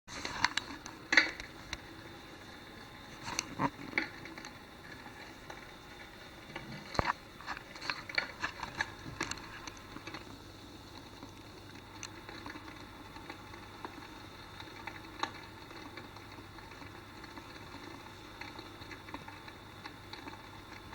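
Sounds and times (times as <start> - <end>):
wood fire crackling and popping: 0.1 - 20.9.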